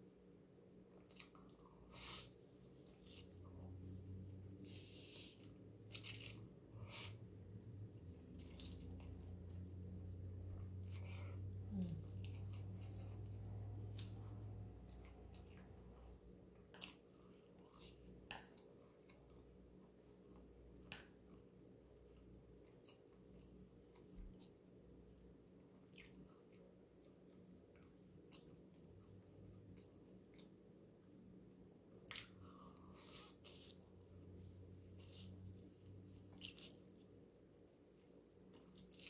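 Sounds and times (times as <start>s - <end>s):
chewing with wet mouth smacks: 1.0s - 30.5s, 32.0s - 39.0s.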